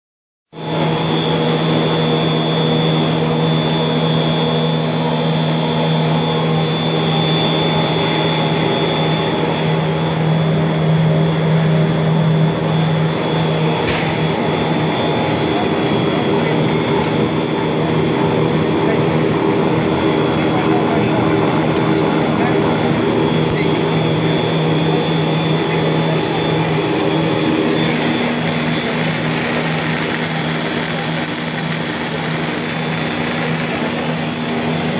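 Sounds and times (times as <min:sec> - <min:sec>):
thin high whine: 0:00.5 - 0:34.9
machinery motors droning: 0:00.6 - 0:34.9.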